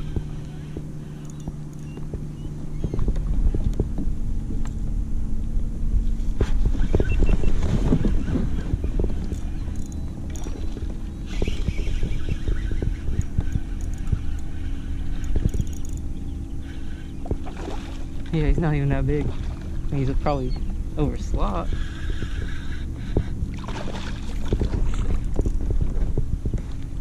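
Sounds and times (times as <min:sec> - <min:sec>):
steady low hum: 0:00.0 - 0:27.0
wind rumble on microphone: 0:00.0 - 0:27.0.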